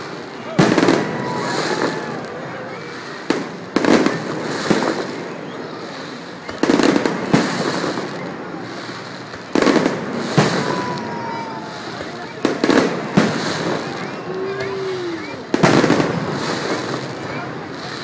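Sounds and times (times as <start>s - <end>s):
fireworks booming: 0.0s - 18.0s
rumble after fireworks bursts: 0.0s - 18.0s.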